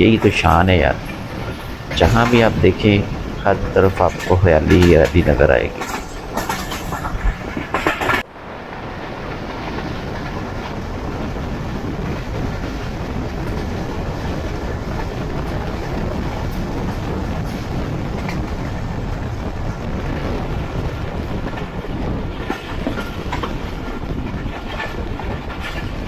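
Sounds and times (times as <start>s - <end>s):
train wheels and carriages: 0.0s - 26.0s.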